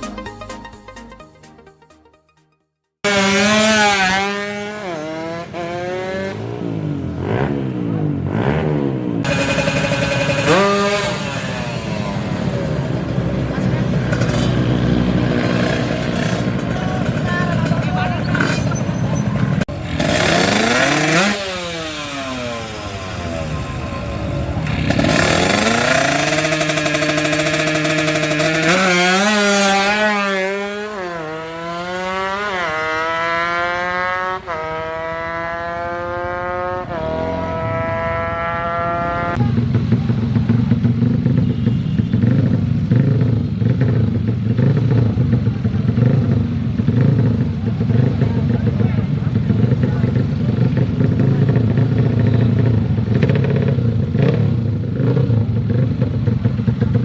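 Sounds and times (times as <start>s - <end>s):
motorcycle engine accelerating: 3.0s - 57.0s.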